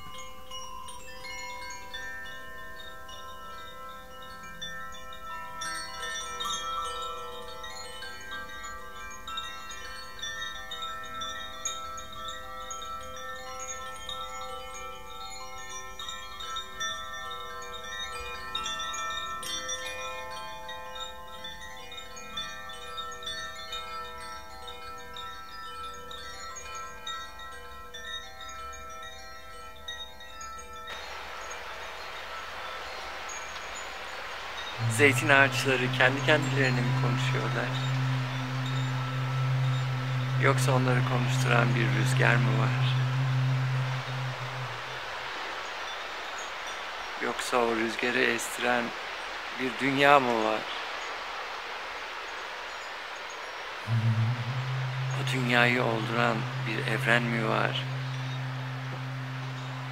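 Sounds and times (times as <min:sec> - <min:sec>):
wind chimes ringing: 0:00.0 - 0:59.9.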